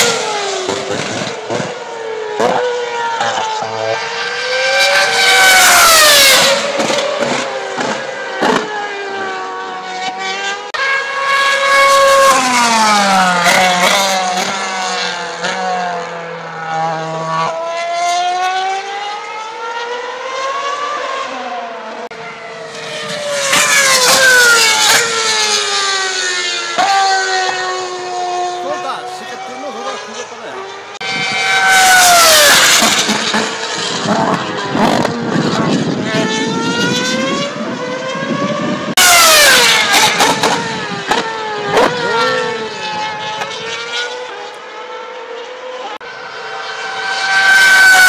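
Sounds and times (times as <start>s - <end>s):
racing car engines screaming: 0.0s - 48.0s.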